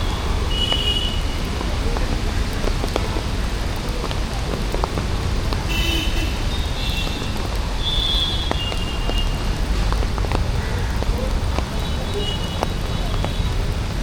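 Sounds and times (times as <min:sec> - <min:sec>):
drops ticking: 0:00.0 - 0:14.0
steady rain: 0:00.0 - 0:14.0
street traffic: 0:00.0 - 0:14.0.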